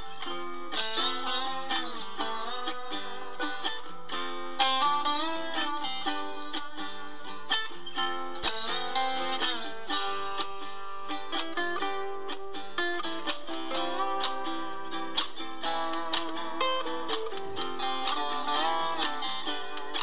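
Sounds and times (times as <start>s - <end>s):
plucked string instrument music: 0.0s - 20.0s.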